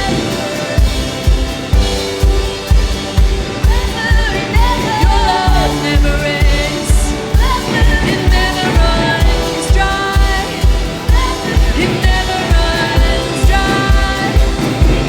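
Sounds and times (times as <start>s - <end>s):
steady kick drum beat: 0.0s - 15.0s
worship band with singing: 0.0s - 15.0s.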